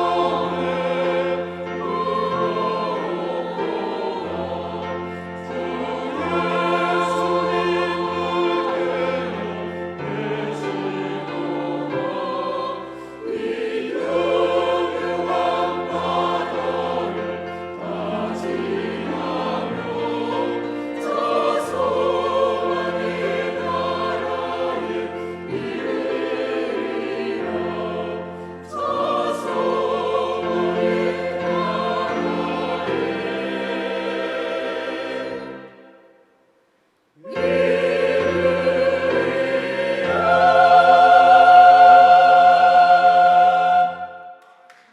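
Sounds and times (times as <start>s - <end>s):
church choir singing: 0.0s - 36.4s, 37.1s - 44.9s.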